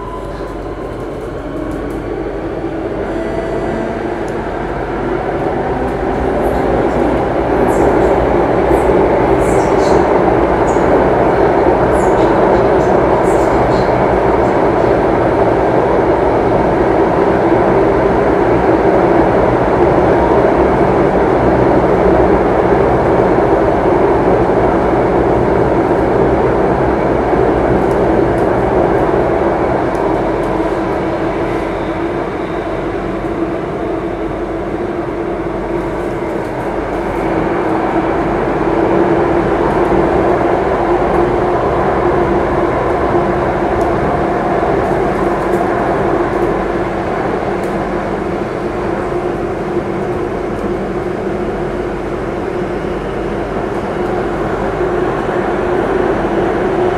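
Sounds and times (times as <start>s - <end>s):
train running inside carriage: 0.0s - 56.9s.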